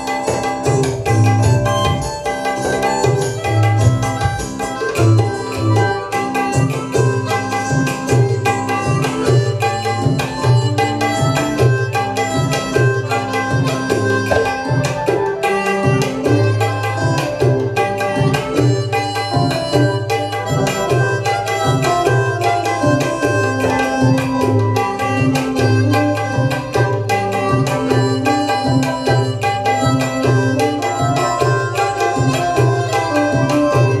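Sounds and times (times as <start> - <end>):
harmonica melody: 0.0 - 34.0
keyboard and guitar: 0.0 - 34.0
tabla fast rhythm: 0.0 - 34.0.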